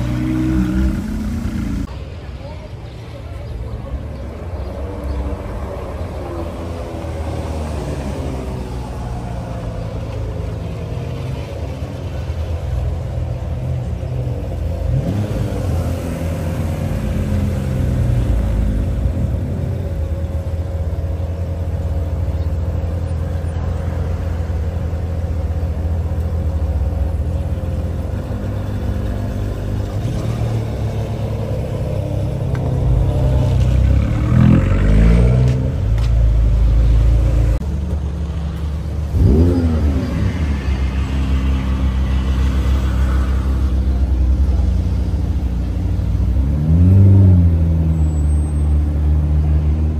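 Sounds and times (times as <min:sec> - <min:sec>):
sports car engines rumbling: 0:00.0 - 0:49.9.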